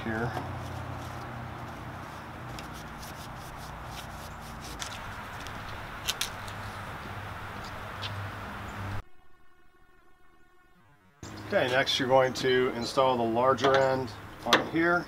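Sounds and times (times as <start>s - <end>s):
low hum: 0.4s - 14.4s.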